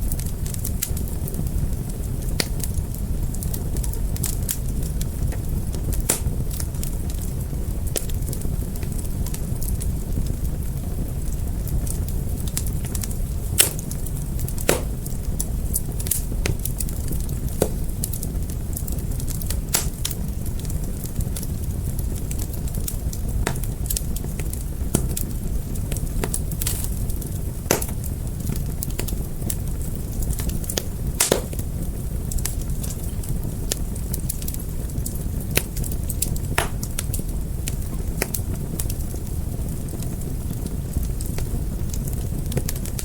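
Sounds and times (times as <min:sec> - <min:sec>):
fire pops and snaps: 0:00.0 - 0:43.0
low rumble of burning: 0:00.0 - 0:43.0.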